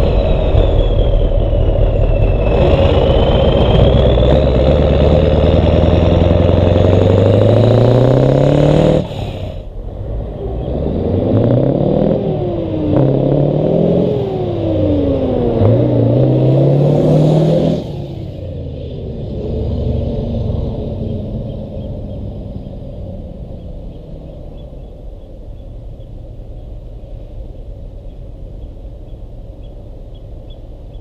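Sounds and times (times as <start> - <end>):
diesel engine revving: 0.0 - 31.0.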